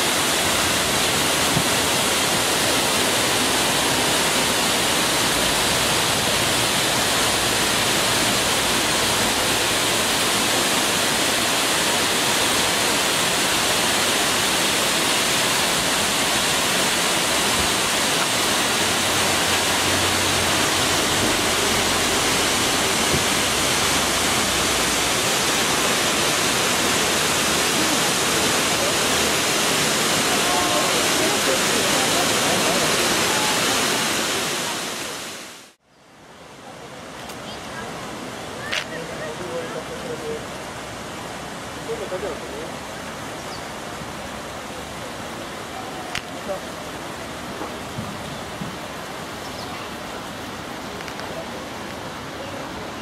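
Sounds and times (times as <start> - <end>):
waterfall rushing over rocks: 0.0 - 53.0.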